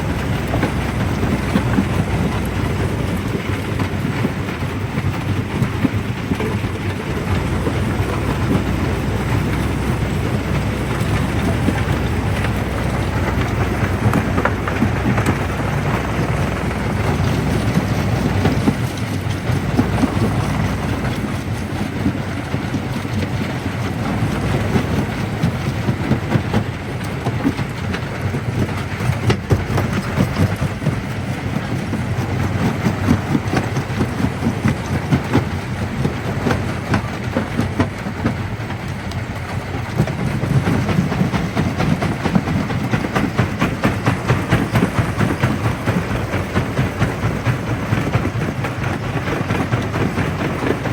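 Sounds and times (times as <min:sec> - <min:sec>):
jaw crusher rumbling: 0:00.0 - 0:50.9.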